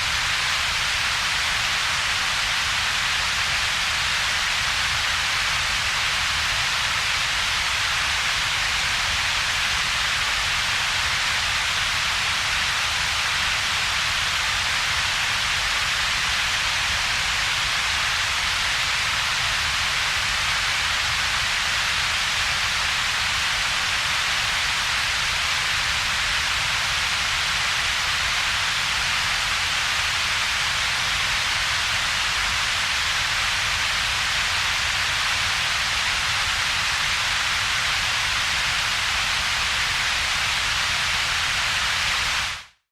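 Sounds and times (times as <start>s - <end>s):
synthetic hiss: 0.0s - 42.9s.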